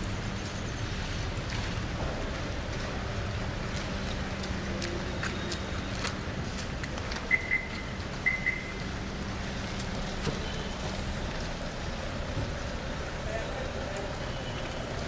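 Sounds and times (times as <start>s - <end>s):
light rain patter: 0.0s - 15.0s.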